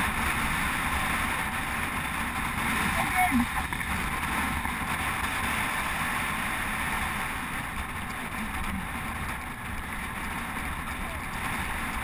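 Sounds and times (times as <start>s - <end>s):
bike tyres humming on asphalt: 0.0s - 12.0s
wind rushing over microphone: 0.0s - 12.0s.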